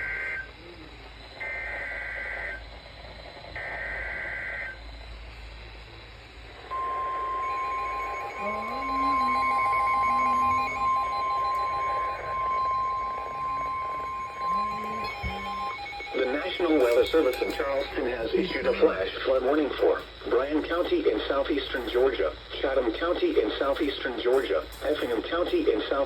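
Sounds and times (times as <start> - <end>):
buzzy digital data bursts: 0.0 - 26.0
steady warning alarm tone: 0.0 - 26.0.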